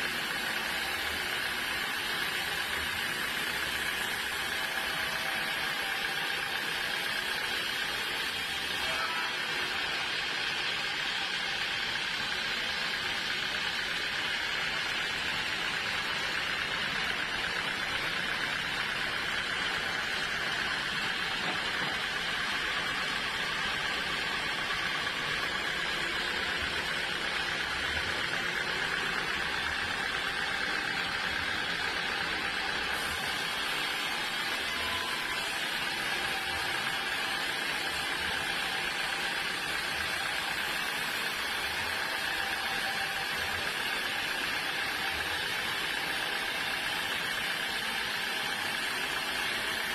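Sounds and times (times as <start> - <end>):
sawmill saw whining: 0.0 - 49.9.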